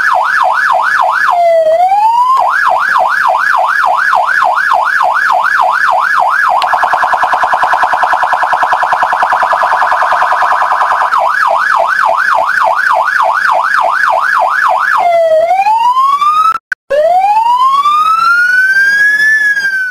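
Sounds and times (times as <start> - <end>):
electronic police siren: 0.0 - 19.9.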